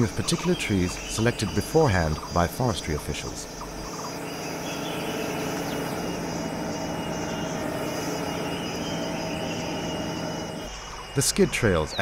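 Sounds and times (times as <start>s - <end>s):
tractor engine running under load: 0.0s - 10.7s
low hum: 0.0s - 12.0s.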